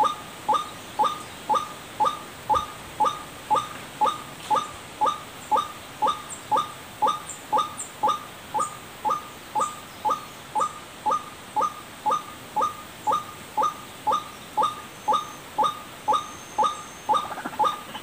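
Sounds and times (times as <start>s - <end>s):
waterhen call: 0.0s - 18.0s.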